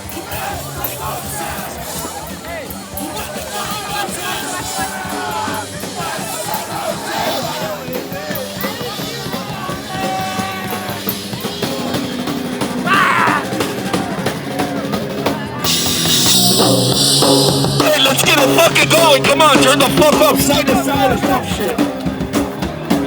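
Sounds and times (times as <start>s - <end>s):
crowd shouting: 0.0s - 23.0s
drums: 0.0s - 23.0s
punk band playing: 0.0s - 23.0s.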